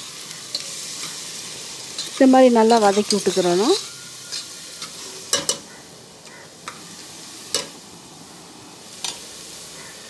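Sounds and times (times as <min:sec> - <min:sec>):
masala sizzling in oil: 0:00.0 - 0:10.0.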